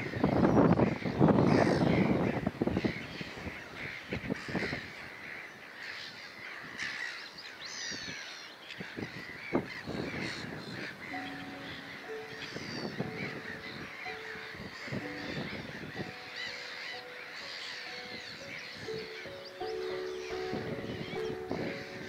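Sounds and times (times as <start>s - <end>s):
crows cawing: 0.8s - 22.0s.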